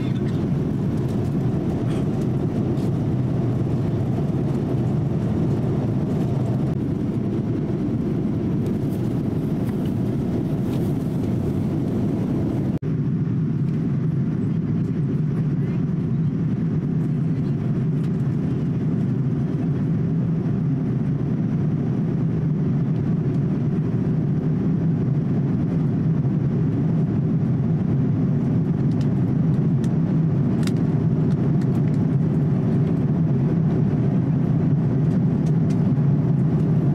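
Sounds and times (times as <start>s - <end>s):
airplane cabin engine rush: 0.0s - 36.9s.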